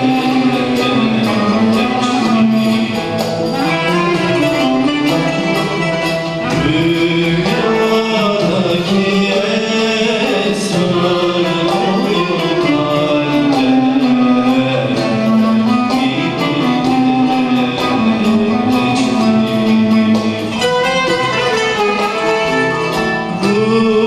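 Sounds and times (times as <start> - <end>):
man singing: 0.0 - 24.0
string ensemble playing: 0.0 - 24.0.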